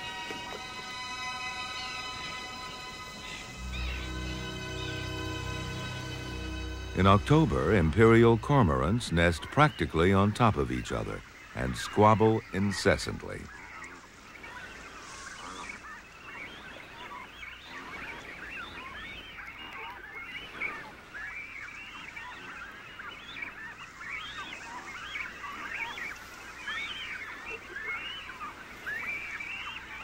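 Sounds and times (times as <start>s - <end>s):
chorus of bird calls: 0.0s - 30.0s.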